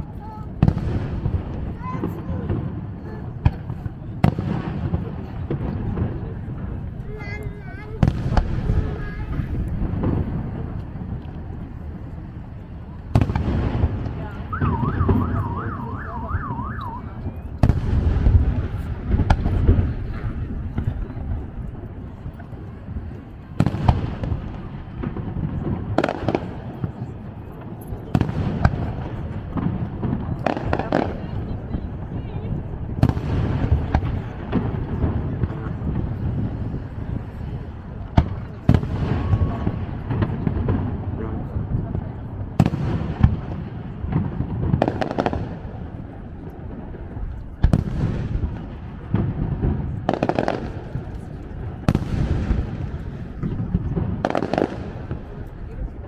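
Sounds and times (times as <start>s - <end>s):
low rumble and crackle: 0.0s - 56.0s.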